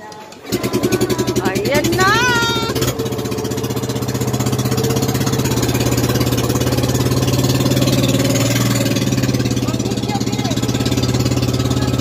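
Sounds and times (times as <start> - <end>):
boat engine chugging: 0.0 - 12.0.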